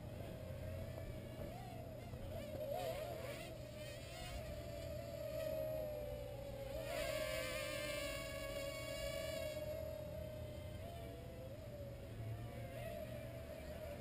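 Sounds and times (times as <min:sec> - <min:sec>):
small drone rotors whining: 0:00.0 - 0:14.0.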